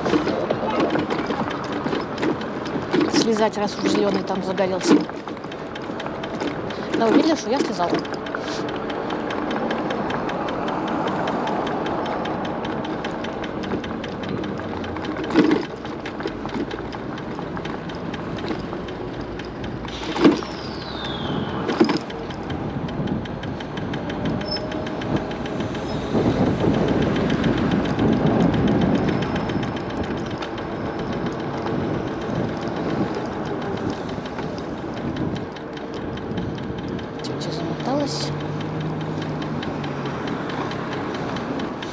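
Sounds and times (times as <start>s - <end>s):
road and wind noise: 0.0s - 41.9s
scooter rattling: 0.0s - 41.9s.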